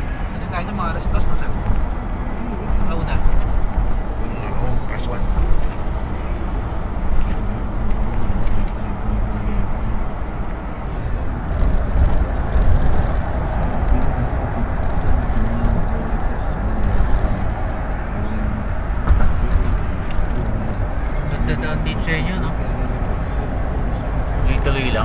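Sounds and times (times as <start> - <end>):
car road noise: 0.0 - 25.0.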